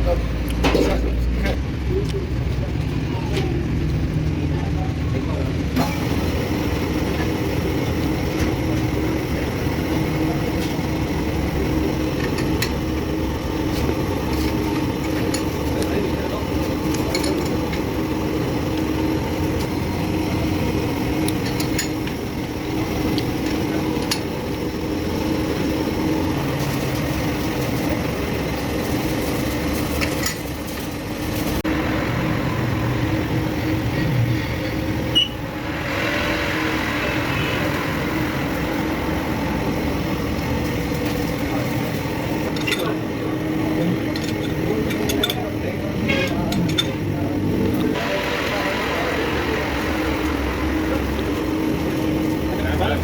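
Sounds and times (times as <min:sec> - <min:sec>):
machine humming: 0:00.0 - 0:53.0.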